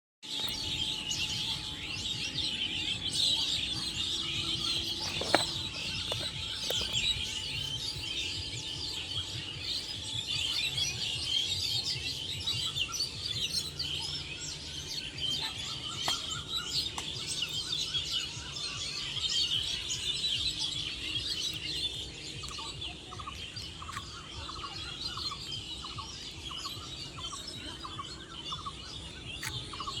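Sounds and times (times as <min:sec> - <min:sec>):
small birds chirping chorus: 0:00.2 - 0:30.0.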